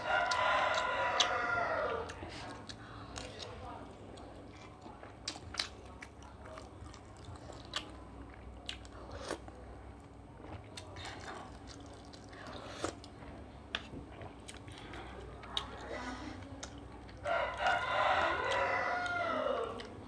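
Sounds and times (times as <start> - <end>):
close-miked chewing: 0.0 - 20.0.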